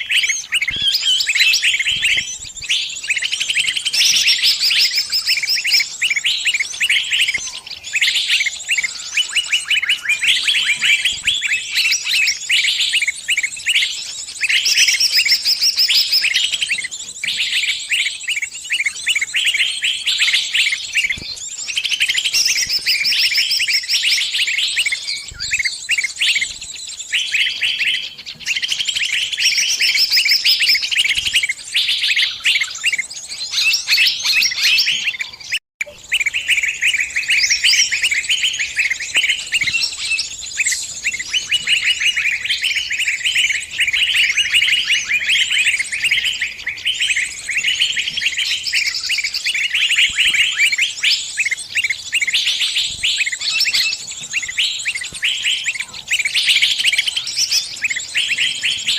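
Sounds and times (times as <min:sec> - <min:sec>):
bird chirping in distress: 0:00.0 - 0:58.9.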